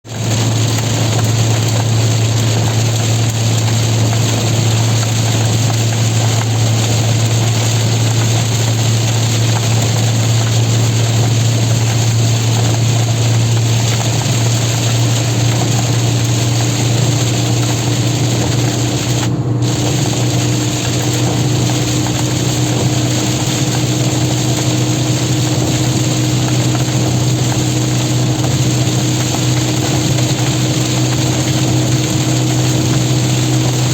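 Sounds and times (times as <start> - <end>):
car engine and road drone: 0.0 - 33.9
rain and tyre spray hiss: 0.0 - 33.9.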